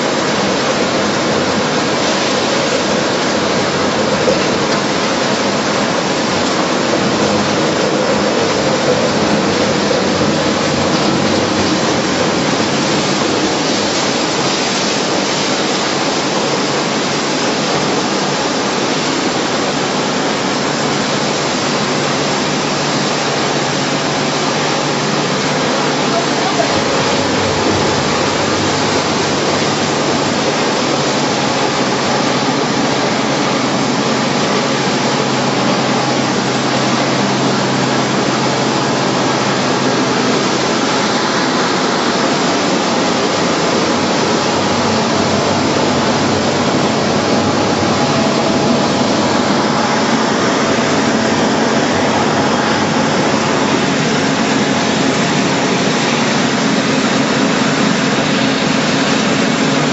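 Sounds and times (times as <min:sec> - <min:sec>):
loud steady machinery noise: 0:00.0 - 0:59.9.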